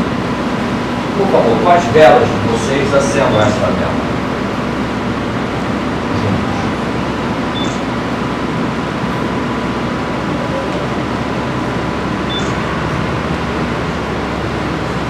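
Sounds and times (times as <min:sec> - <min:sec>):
room noise hiss and hum: 0:00.0 - 0:15.0.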